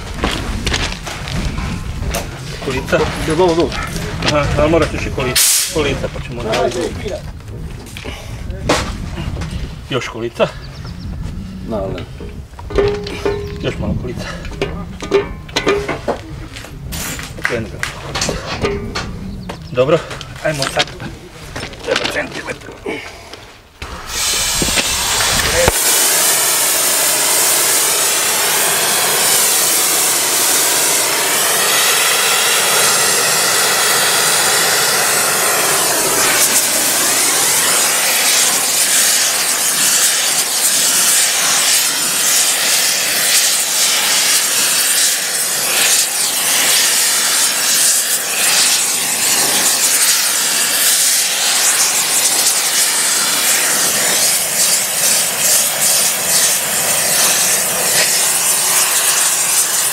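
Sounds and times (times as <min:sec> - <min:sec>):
gas burner roaring hiss: 0:00.0 - 0:59.9.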